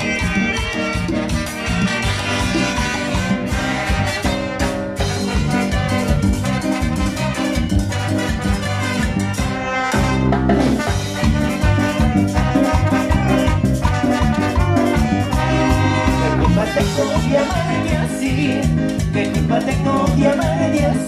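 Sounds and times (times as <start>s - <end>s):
brass band playing latin dance music: 0.0s - 21.0s.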